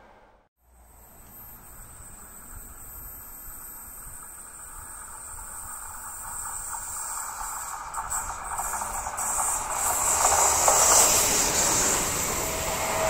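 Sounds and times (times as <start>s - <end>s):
distant train rumble: 0.0s - 13.0s
high-pitched hiss: 0.7s - 13.0s.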